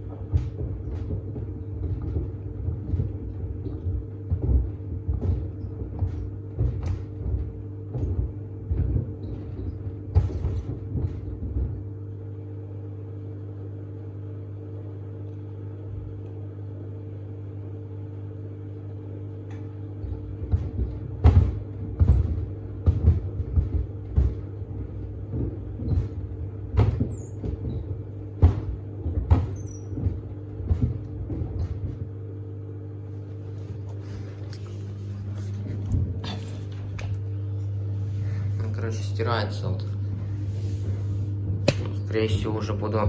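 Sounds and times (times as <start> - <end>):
shoes thumping in washer drum: 0.0 - 12.4, 19.4 - 43.0
washing machine motor hum: 0.0 - 43.0.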